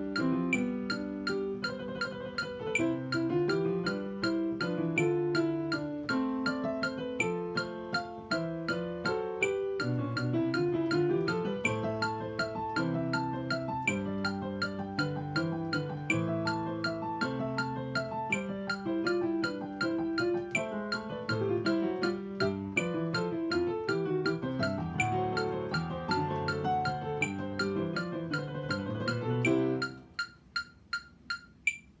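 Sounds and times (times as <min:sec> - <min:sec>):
digital piano chords: 0:00.0 - 0:32.0
metronome ticking click: 0:00.0 - 0:32.0.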